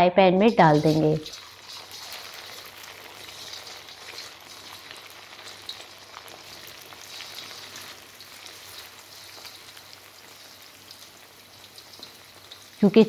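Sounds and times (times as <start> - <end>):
chicken deep-frying in oil: 0.5 - 13.0.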